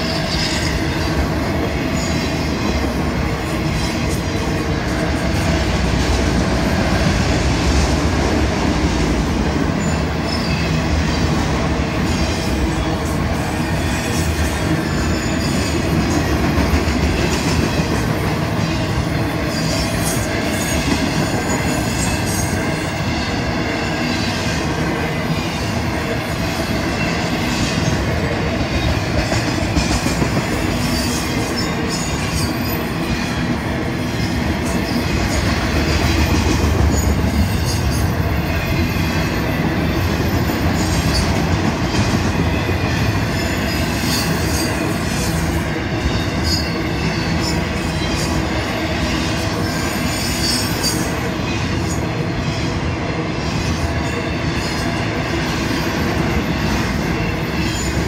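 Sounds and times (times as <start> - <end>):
freight train wheels clattering: 0.0 - 52.8.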